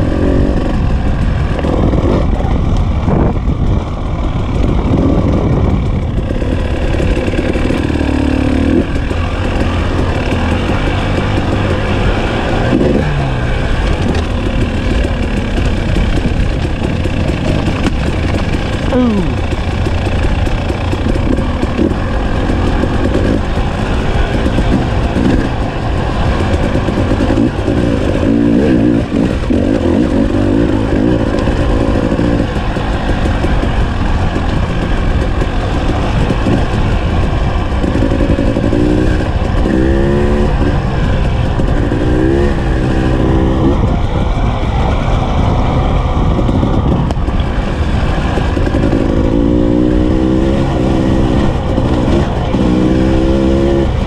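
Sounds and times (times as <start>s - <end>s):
motorcycle engine revving: 0.0s - 54.0s
steady low rumble: 0.0s - 54.0s.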